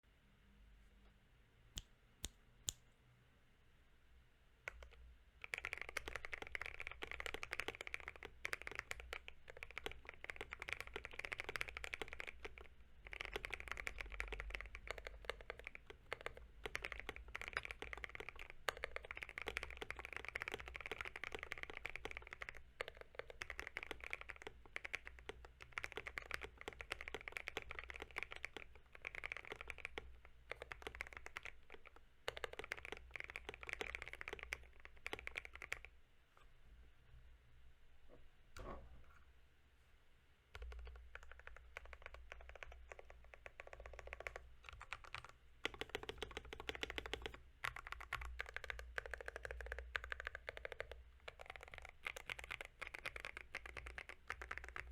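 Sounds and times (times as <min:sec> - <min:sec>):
mechanical keyboard typing: 0:04.7 - 0:35.9, 0:40.6 - 0:54.9.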